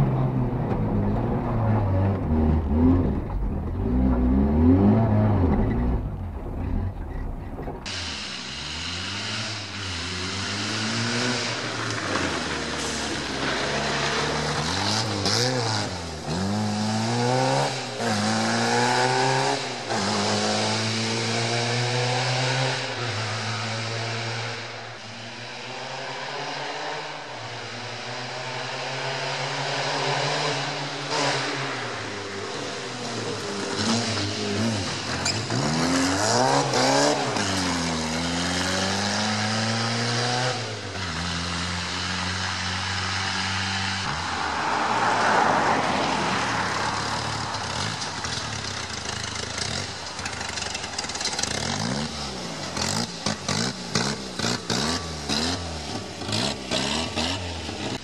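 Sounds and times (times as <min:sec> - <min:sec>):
car engine revving past: 0:00.0 - 0:58.0.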